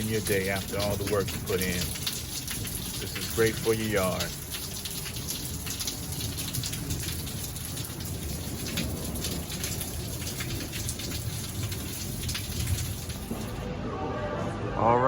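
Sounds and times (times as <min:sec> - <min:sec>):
rain drops on hard surfaces: 0:00.0 - 0:13.7.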